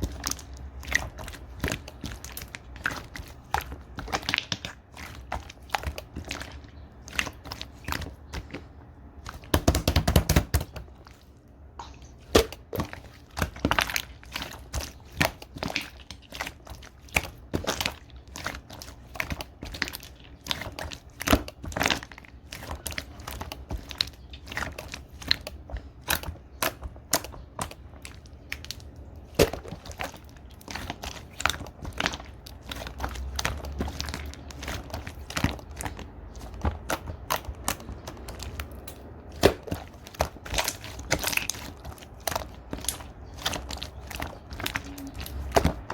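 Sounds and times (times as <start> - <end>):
slime squished by hand: 0.0 - 45.9.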